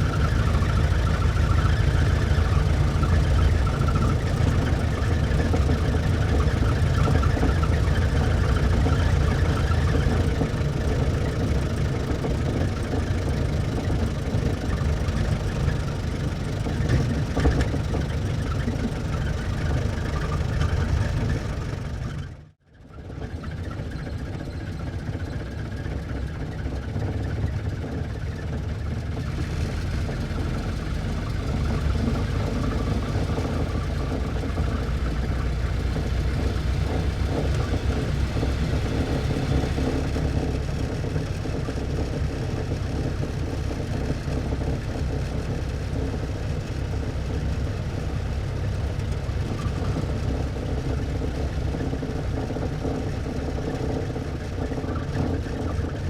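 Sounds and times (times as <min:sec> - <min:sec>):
car engine running: 0:00.0 - 0:22.5, 0:23.6 - 0:56.0.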